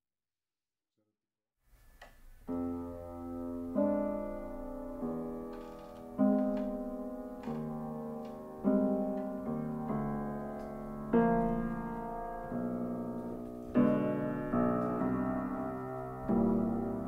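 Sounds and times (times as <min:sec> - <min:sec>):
slow piano chords: 0:01.8 - 0:17.0.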